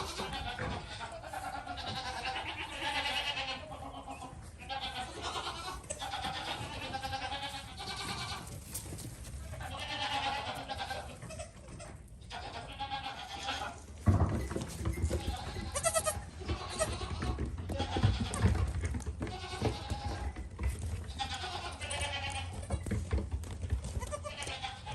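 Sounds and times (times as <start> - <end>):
goats bleating: 0.0 - 8.6, 9.5 - 13.9, 15.0 - 22.8, 23.9 - 24.9.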